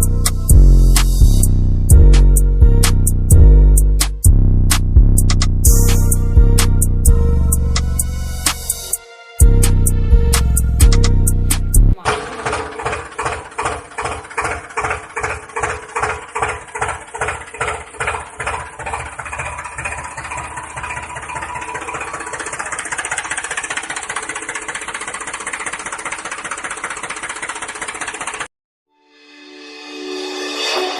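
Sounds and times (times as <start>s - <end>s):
tractor engine chugging: 0.0s - 4.3s, 5.6s - 28.5s.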